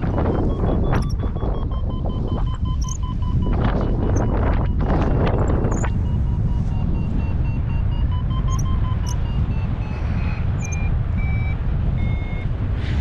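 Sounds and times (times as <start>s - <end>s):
variometer beeping: 0.0s - 12.7s
wind rumbling on microphone: 0.0s - 13.0s.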